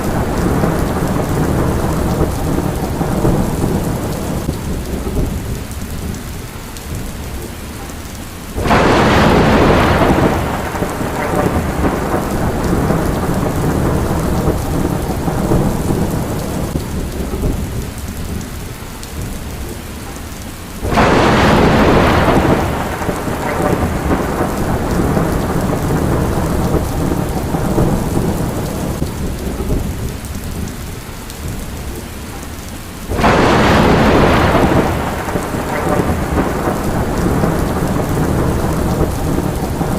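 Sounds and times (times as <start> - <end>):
thunder claps rumbling: 0.0 - 7.9, 8.5 - 19.8, 20.8 - 32.0, 33.0 - 39.9
steady rain: 0.0 - 39.9.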